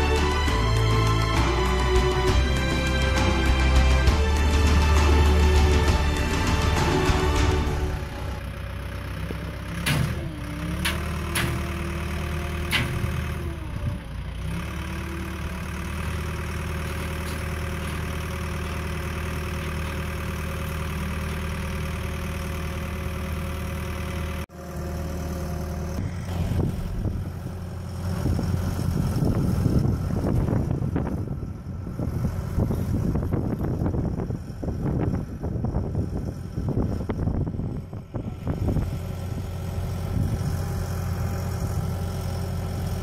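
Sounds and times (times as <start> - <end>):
construction machinery engines idling: 0.0 - 43.0.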